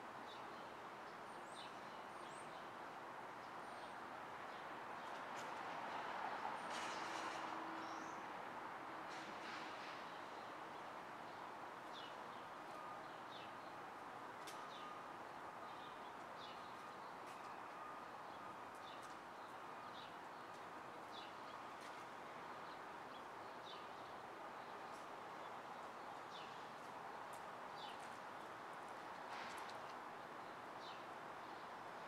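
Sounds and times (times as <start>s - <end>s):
distant traffic hum: 2.6s - 32.0s.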